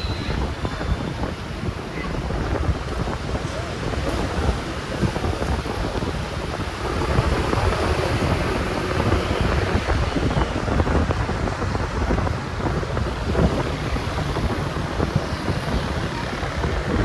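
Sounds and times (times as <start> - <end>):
road and traffic noise: 0.0 - 17.0
wind buffeting microphone: 0.0 - 17.0.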